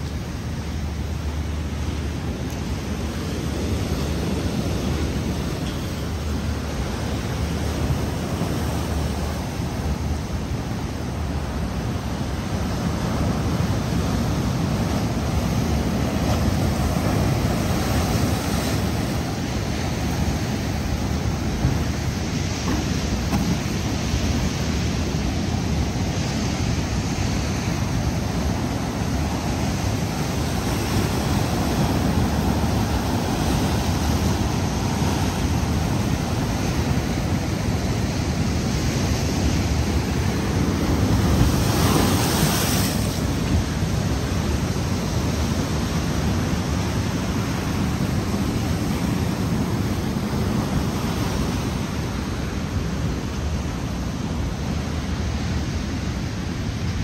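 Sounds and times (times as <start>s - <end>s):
ocean surf washing in: 0.0s - 57.0s.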